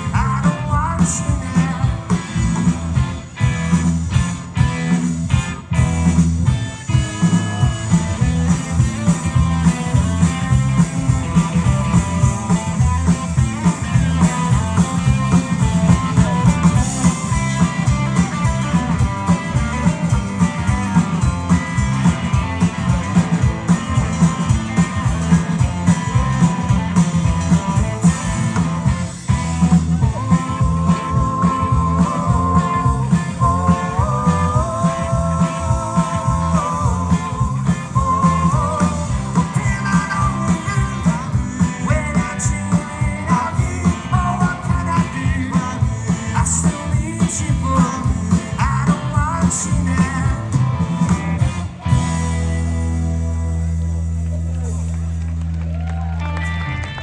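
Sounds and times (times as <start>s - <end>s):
drums steady beat: 0.0s - 56.2s
bass guitar: 0.0s - 57.0s
electric guitar: 0.0s - 57.0s.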